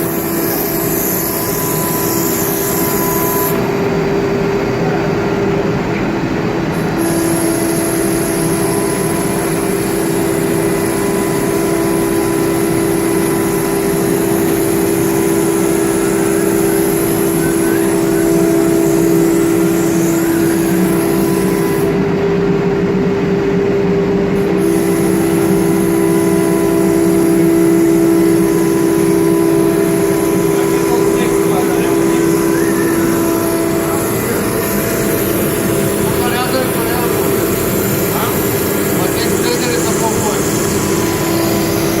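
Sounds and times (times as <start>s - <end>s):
router machine whine: 0.0s - 4.6s, 6.6s - 22.1s, 24.3s - 42.0s.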